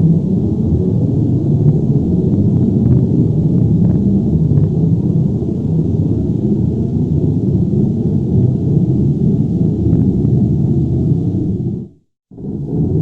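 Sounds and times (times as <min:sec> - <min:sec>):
deep rumbling: 0:00.0 - 0:13.0.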